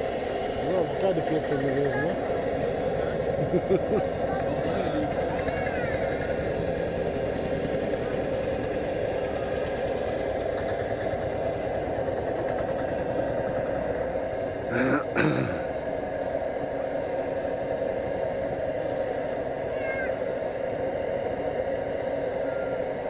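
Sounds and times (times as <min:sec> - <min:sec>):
single-cylinder engine running: 0:00.0 - 0:23.0.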